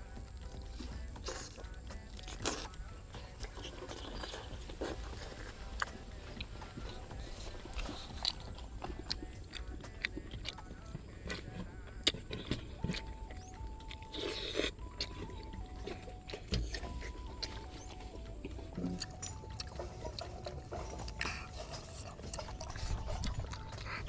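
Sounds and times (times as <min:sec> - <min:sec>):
close-up chewing and crunching: 0:00.0 - 0:24.0.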